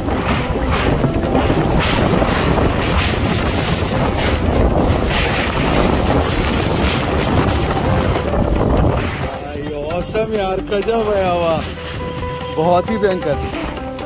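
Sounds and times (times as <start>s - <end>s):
wind blasting microphone: 0.0s - 14.0s.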